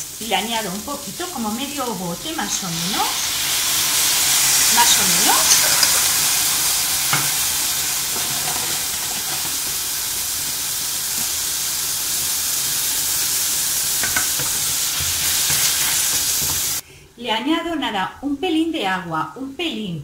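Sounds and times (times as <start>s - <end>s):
vegetables sizzling in a saucepan: 0.0s - 16.8s.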